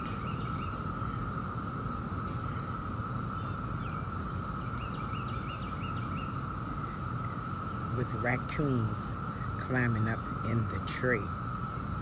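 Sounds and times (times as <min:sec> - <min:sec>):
songbird warbling: 0:00.0 - 0:11.8
insect chorus drone: 0:00.0 - 0:12.0.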